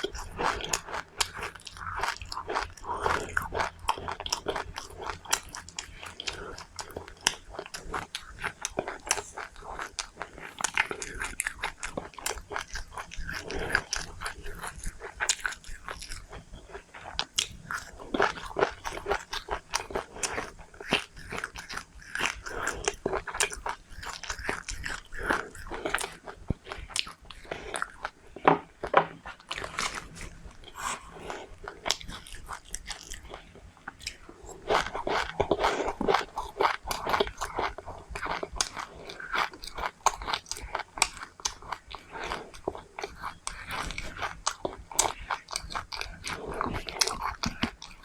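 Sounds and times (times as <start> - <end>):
person chewing crunchy seeds: 0.0 - 48.0.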